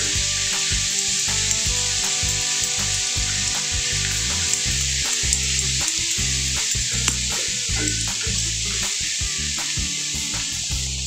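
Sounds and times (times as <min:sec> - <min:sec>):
spatula scraping wok: 0:00.0 - 0:11.0
vegetables sizzling in a wok: 0:00.0 - 0:11.0.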